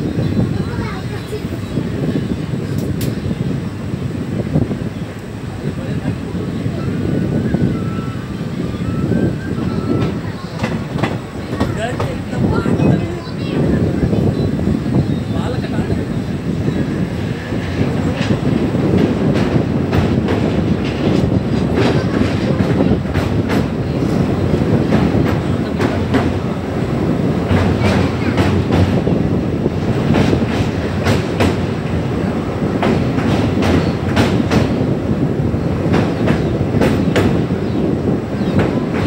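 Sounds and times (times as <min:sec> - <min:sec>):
rail joint clanks and clicks: 0:00.0 - 0:39.0
train wheels rumbling on rails: 0:00.0 - 0:39.0.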